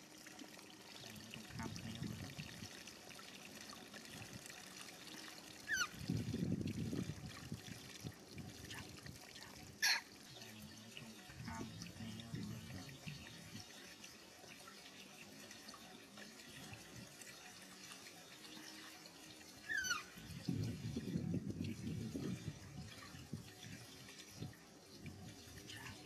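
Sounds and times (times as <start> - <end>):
water splashing in a metal basin: 0.0 - 26.0.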